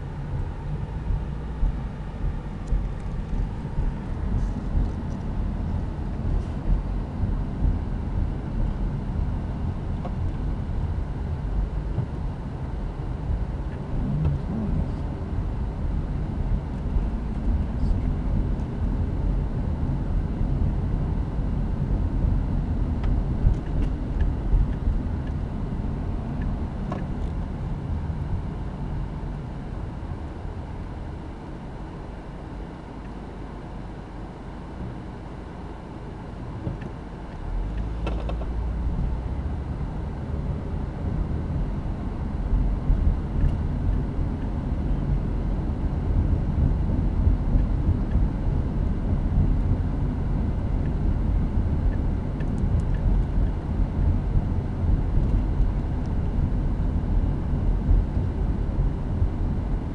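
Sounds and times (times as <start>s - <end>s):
road and engine rumble: 0.0s - 59.9s.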